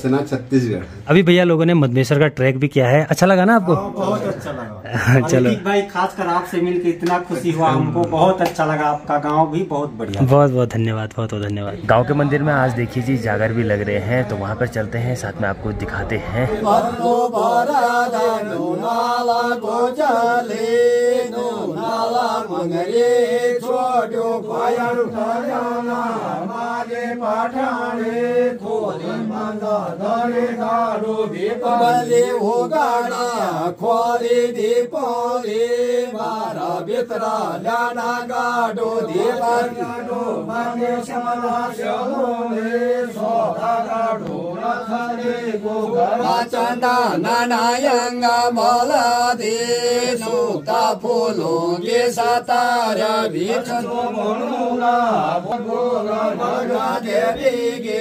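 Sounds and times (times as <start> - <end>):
voices chanting a devotional song: 0.0 - 2.0, 3.0 - 58.0.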